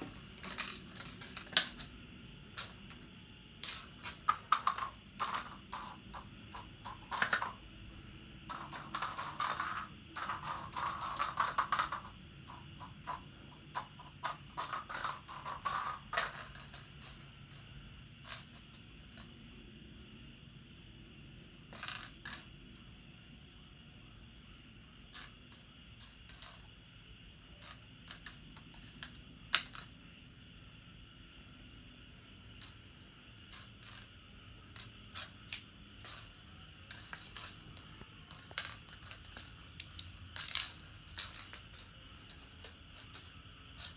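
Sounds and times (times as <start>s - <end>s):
crickets chirping: 0.0s - 43.9s
kittens playing on concrete: 0.0s - 43.9s.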